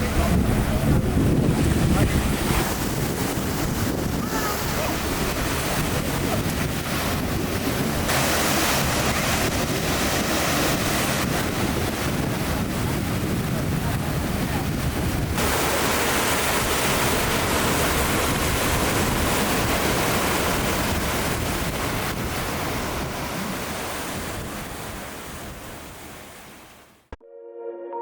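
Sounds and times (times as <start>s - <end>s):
wind buffeting microphone: 0.0s - 26.6s
sea surf rushing on shore: 0.0s - 27.0s.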